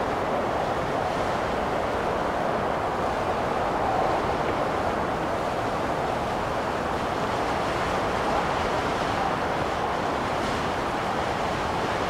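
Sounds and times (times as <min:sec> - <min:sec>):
blizzard wind rushing: 0:00.0 - 0:12.0.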